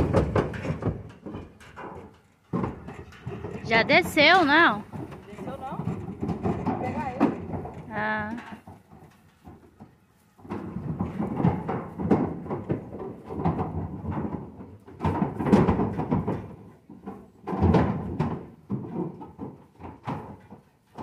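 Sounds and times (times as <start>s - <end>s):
hooves knocking on truck floor: 0.0s - 21.0s.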